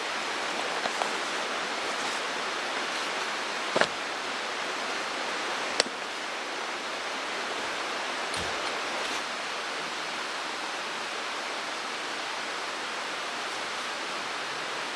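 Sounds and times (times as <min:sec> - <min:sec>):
mountain stream rushing: 0:00.0 - 0:14.9.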